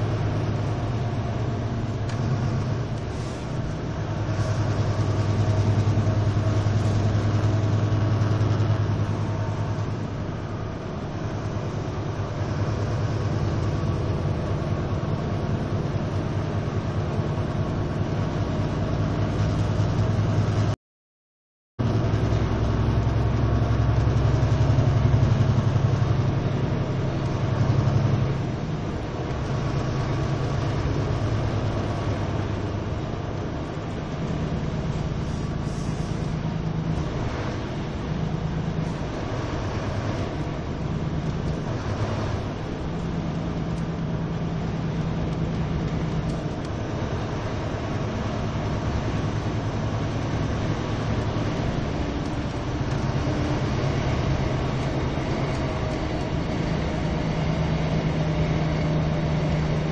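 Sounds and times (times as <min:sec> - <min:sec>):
vehicle engine drone and road noise: 0:00.0 - 0:20.8, 0:21.8 - 0:59.9.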